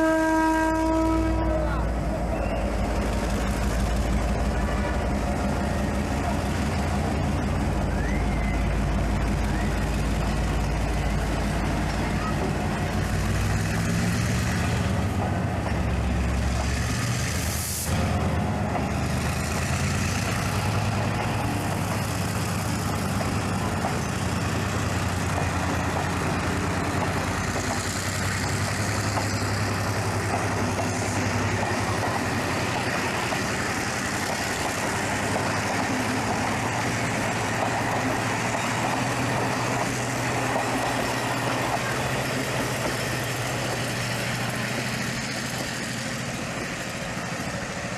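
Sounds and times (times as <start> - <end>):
diesel train engine drone: 0.0 - 47.9
train rumble and hiss: 0.0 - 47.9.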